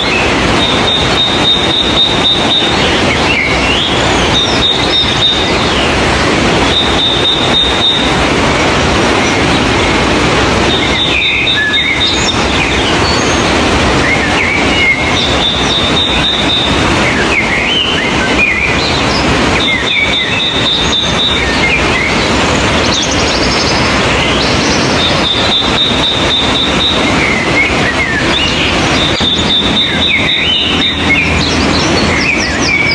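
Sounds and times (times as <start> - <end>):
birds chirping and singing: 0.0 - 32.9
high steady note: 0.0 - 32.9
steady rushing noise: 0.0 - 32.9.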